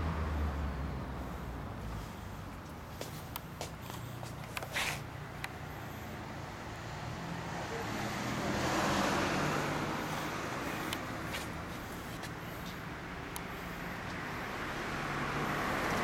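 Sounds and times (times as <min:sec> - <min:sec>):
car passing: 0:00.0 - 0:16.0
low engine hum: 0:00.0 - 0:16.0.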